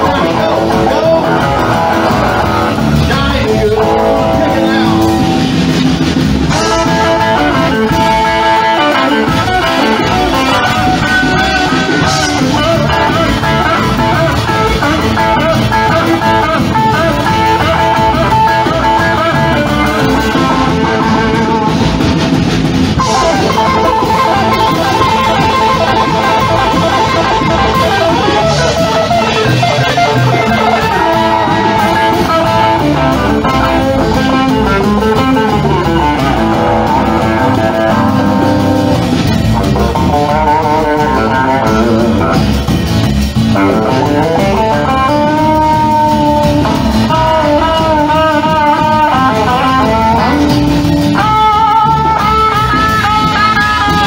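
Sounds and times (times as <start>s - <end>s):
drums: 0.0s - 54.0s
electric guitar lines: 0.0s - 54.0s
upright bass: 0.0s - 54.0s.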